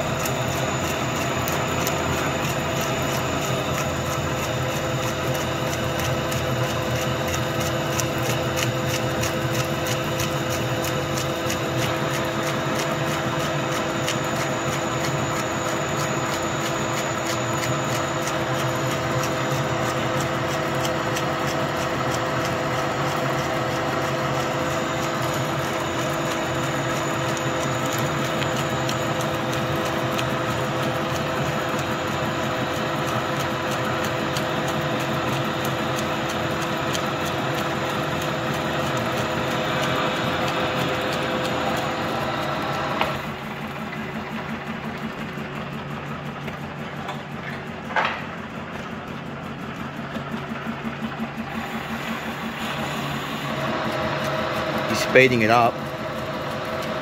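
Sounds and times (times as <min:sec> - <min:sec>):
lathe humming: 0:00.0 - 0:57.0.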